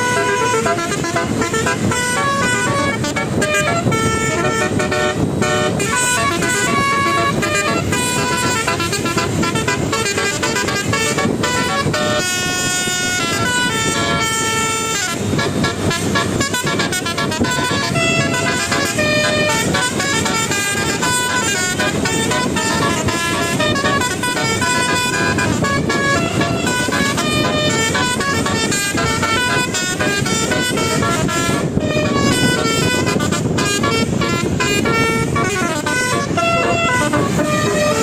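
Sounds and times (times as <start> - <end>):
loud traffic noise: 0.0 - 38.0
vehicle horns tooting: 0.0 - 38.0.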